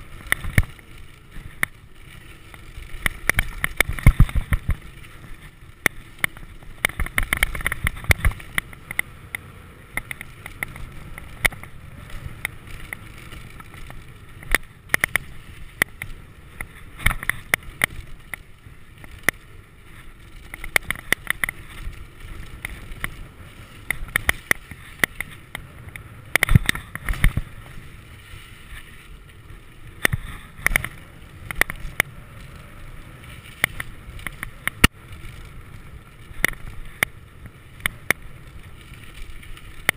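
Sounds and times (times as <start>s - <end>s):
bike rattling and knocking: 0.0s - 39.9s
bike tyres rolling over gravel: 0.0s - 39.9s.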